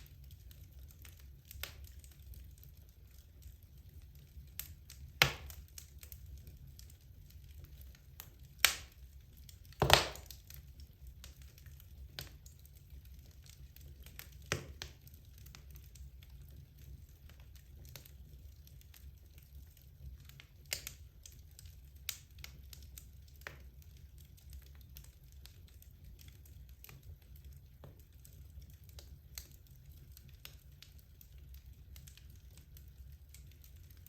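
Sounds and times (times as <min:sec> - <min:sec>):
logs crackling in fireplace: 0:00.0 - 0:34.0.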